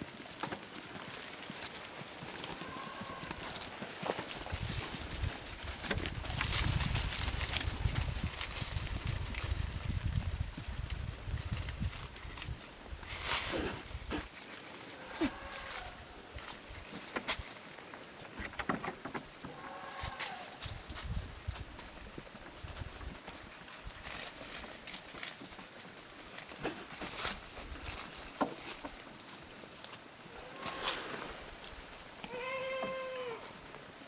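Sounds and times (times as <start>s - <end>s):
soft hoof steps: 0.0s - 34.0s.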